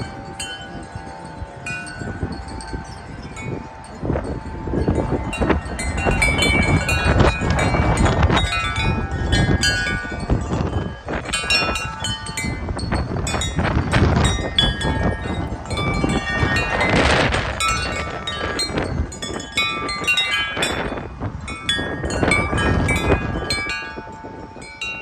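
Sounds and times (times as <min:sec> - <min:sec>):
wind buffeting microphone: 0:00.0 - 0:25.0
wind chimes ringing: 0:00.0 - 0:25.0.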